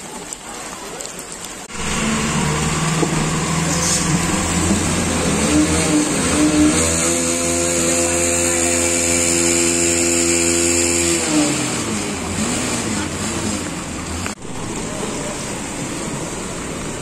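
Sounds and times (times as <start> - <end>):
water splashing from wheels: 0.0 - 17.0
minibus engine: 1.6 - 17.0.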